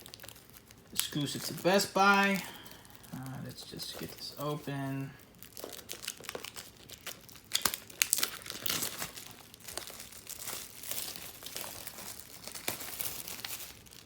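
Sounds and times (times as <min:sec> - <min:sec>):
plastic shrink-wrap crinkling: 0:00.0 - 0:14.0.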